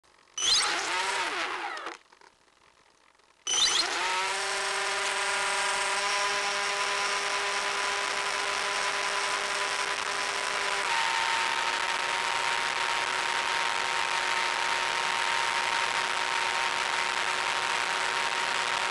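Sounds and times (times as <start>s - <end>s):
electric propeller motor whining: 0.4s - 2.0s, 3.5s - 18.9s.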